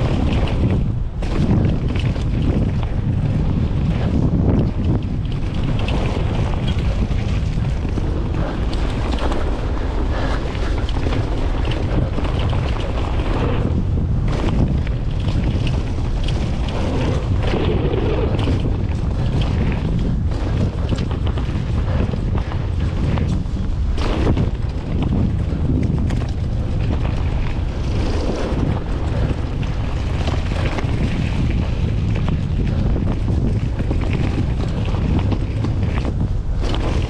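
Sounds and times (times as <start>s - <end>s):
bike clattering over bumps: 0.0s - 37.0s
tyres rolling on dirt: 0.0s - 37.0s
wind buffeting microphone: 0.0s - 37.0s.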